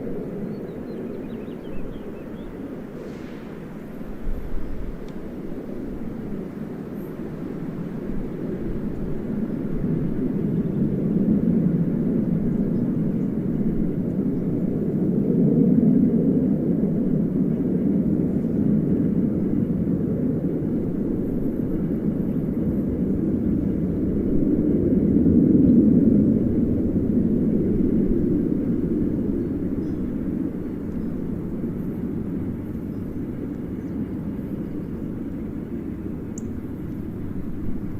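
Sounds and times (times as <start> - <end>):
jet aircraft distant rumble: 0.0 - 37.9.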